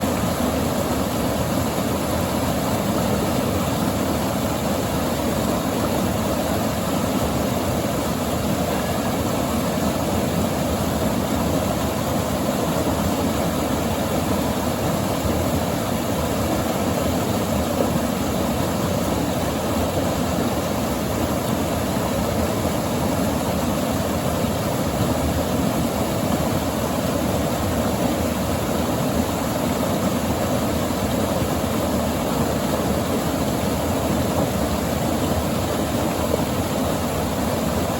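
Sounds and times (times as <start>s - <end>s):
river water rushing: 0.0s - 37.9s.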